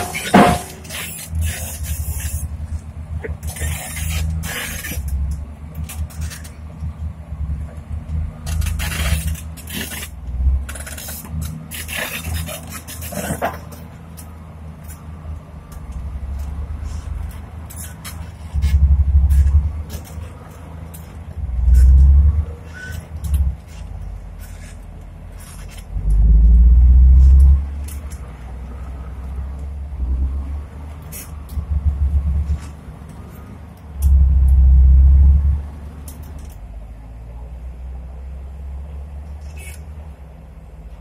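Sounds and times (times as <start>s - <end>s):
diesel engines rumbling: 0.0s - 41.0s.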